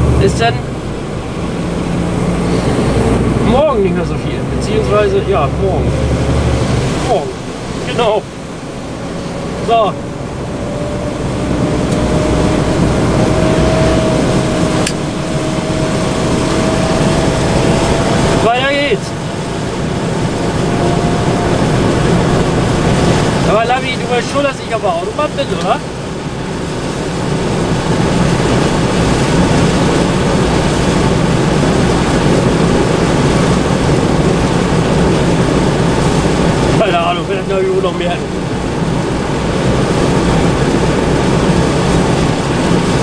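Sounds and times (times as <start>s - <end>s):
thin steady whine: 0.0s - 43.0s
truck engine and road rumble: 0.0s - 43.0s.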